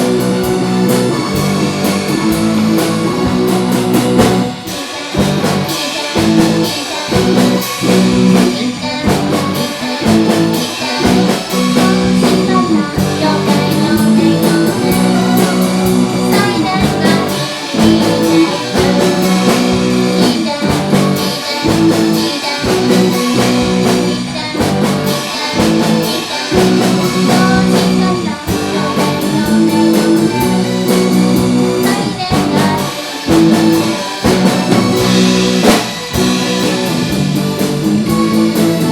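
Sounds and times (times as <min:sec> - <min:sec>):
drum kit beat: 0:00.0 - 0:38.9
electric guitar: 0:00.0 - 0:38.9
rock band playing: 0:00.0 - 0:38.9.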